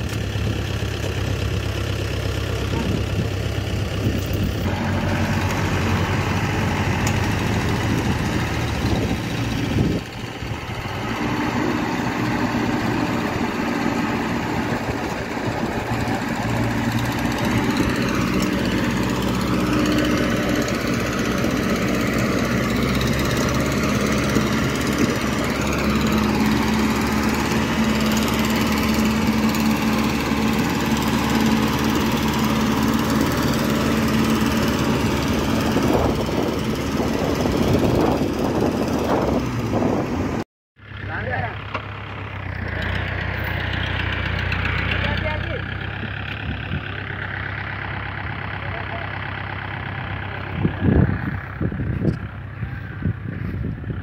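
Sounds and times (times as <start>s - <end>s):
diesel engines running under load: 0.0s - 54.0s.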